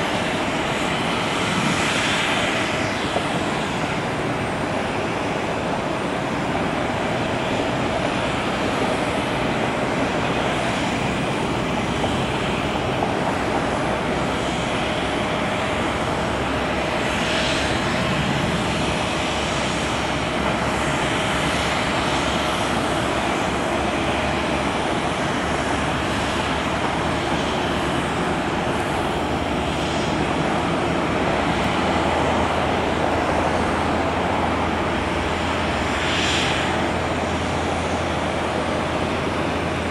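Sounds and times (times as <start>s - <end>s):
jet aircraft drone: 0.0s - 39.9s.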